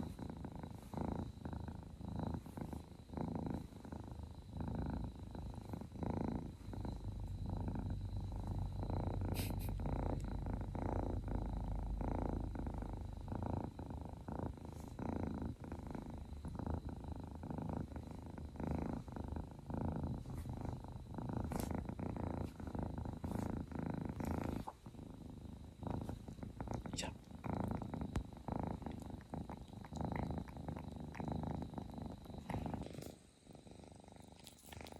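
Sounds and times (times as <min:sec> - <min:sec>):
kitten purring: 0:00.0 - 0:34.9.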